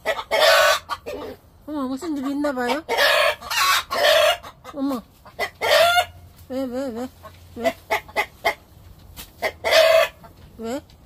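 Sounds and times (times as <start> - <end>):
chickens squawking: 0.0 - 10.6
chickens clucking: 0.0 - 11.0.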